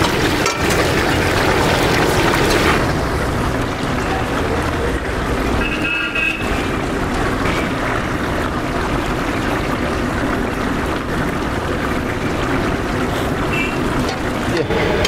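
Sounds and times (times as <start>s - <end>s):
food deep-frying in oil: 0.0s - 15.0s.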